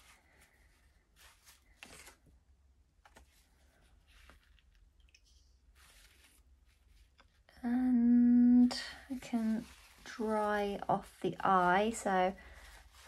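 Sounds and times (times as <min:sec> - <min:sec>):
paintbrush stroking on paper: 0:00.0 - 0:02.2, 0:03.2 - 0:07.5, 0:08.6 - 0:13.0.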